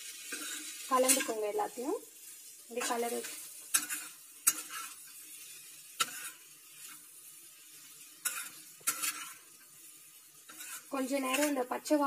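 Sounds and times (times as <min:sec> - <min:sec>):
food sizzling in oil: 0:00.0 - 0:12.0
metal spatula scraping pan: 0:00.0 - 0:12.0.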